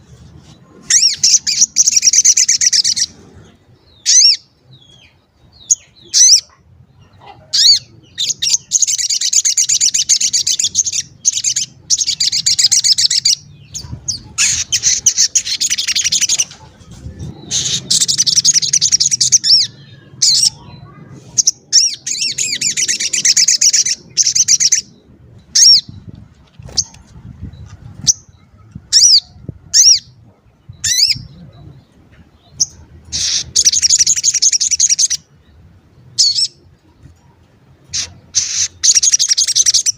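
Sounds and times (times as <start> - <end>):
bird twittering and chirping: 0.4 - 39.9.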